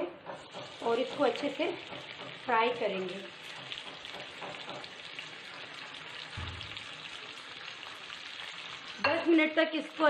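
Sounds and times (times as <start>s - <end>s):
vegetables sizzling in hot oil: 0.3s - 10.0s.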